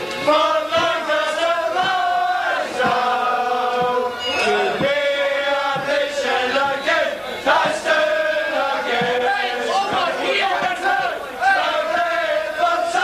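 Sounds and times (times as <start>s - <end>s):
men singing in unison: 0.2s - 13.0s.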